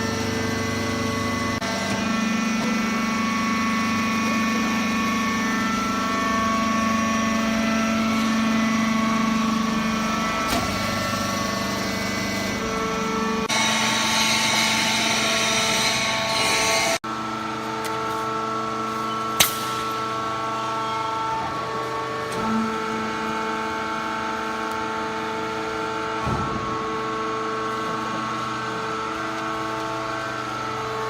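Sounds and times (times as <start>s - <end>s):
hydraulic baling machine humming: 0.0s - 31.0s.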